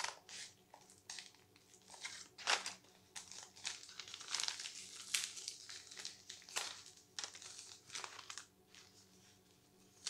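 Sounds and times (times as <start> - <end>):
paper envelope crinkling: 0.0 - 10.0.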